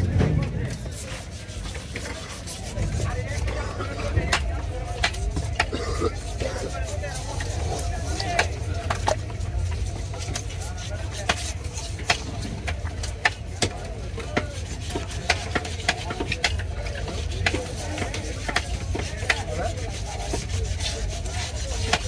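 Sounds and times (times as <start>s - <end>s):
faint voices: 0.0s - 22.0s
market noise rumble: 0.0s - 22.0s.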